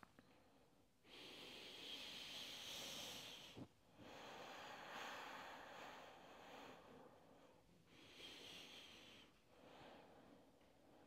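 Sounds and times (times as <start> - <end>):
slow breathing: 0.3 - 11.0.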